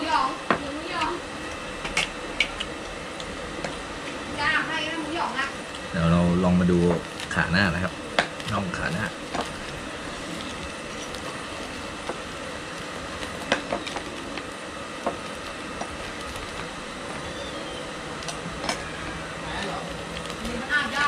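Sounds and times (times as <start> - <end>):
steady rushing background noise: 0.0 - 21.0.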